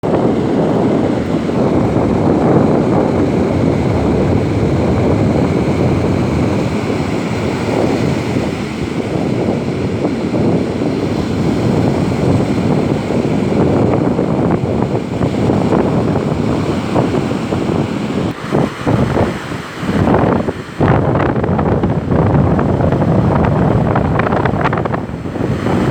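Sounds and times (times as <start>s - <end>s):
ocean surf: 0.0s - 25.9s
wind on microphone: 0.0s - 25.9s.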